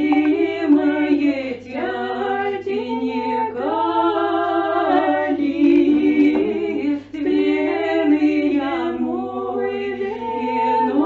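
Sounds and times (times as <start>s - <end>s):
women singing in harmony: 0.0s - 11.0s.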